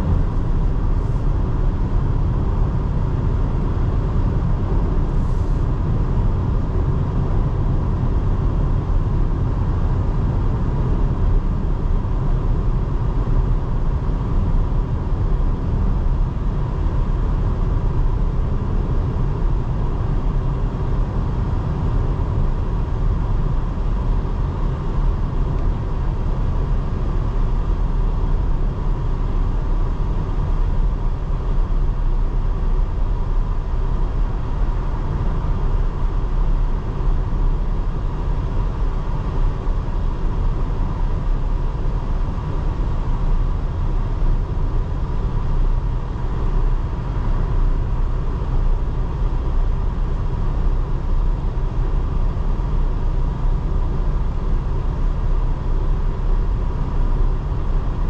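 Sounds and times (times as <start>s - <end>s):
car driving low rumble: 0.0s - 58.0s.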